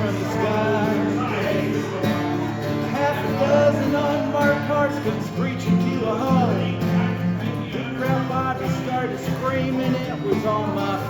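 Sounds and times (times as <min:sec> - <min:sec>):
acoustic guitar country music: 0:00.0 - 0:11.0
person singing: 0:00.0 - 0:11.0.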